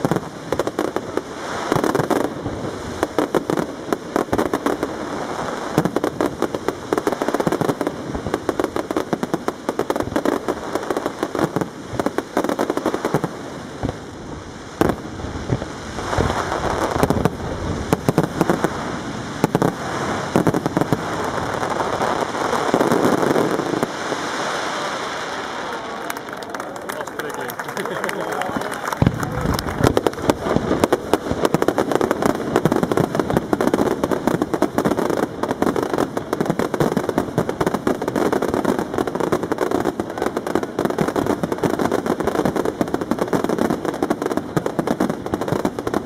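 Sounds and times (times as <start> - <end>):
fireworks bursting and crackling: 0.0 - 46.0.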